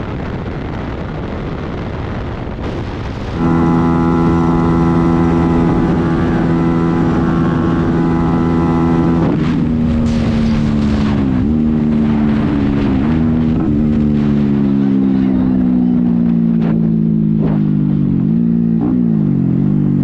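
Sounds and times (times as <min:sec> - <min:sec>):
wind rushing over microphone: 0:00.0 - 0:18.8
motorcycle engine at high speed: 0:00.0 - 0:20.0.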